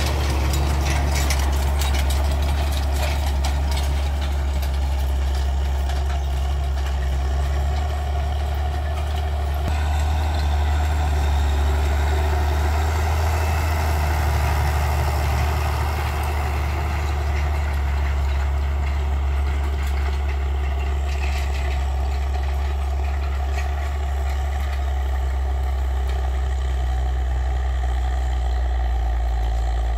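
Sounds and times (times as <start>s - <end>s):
tractor diesel engine drone: 0.0s - 29.9s.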